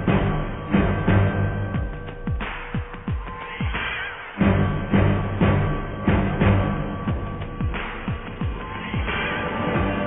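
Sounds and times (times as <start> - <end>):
held chords: 0.0 - 10.0.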